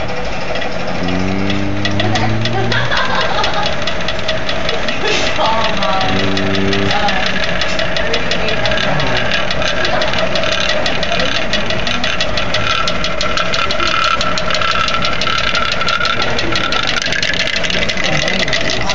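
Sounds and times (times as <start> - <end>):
magnetic stirrer humming and ticking: 0.0 - 18.9.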